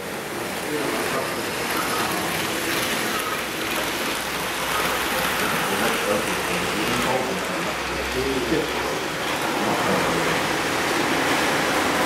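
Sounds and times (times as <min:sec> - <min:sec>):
model trains rattling on rails: 0:00.0 - 0:12.0.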